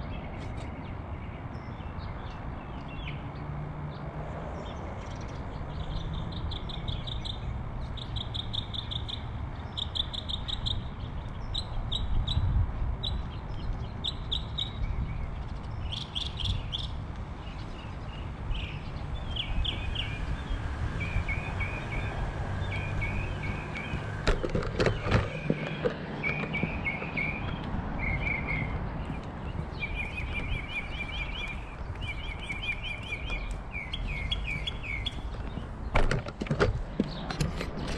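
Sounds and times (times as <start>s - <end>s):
birds chirping in trills: 0.0s - 36.0s.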